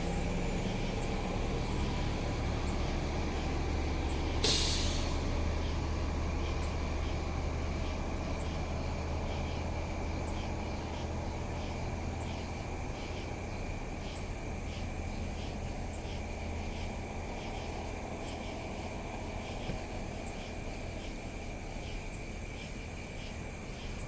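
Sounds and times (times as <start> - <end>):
constant high whine: 0.0 - 24.0
night insects chirping: 0.0 - 24.0
vehicle engines idling: 0.0 - 24.0.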